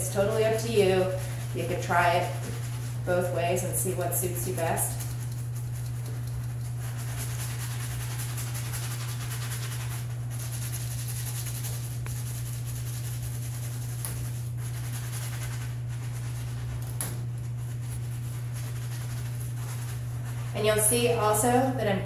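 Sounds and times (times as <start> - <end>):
scrub brush scratching hands: 0.0 - 21.7
low steady hum: 0.0 - 22.0.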